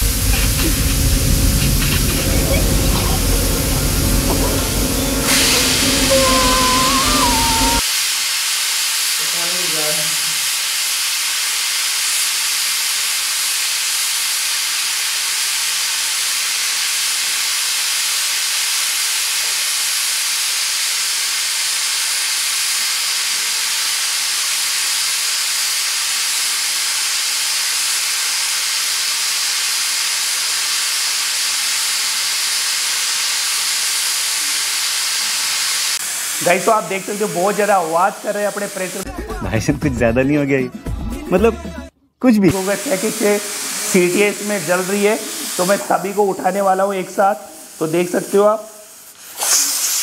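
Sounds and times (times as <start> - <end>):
pressure cookers hissing steam: 0.0 - 39.6, 42.2 - 50.0.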